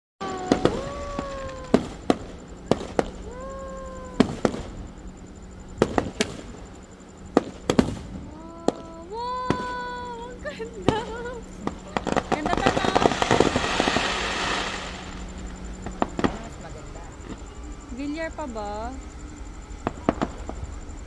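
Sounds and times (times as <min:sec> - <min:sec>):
fireworks bursting with bangs: 0:00.2 - 0:19.0, 0:19.8 - 0:20.8.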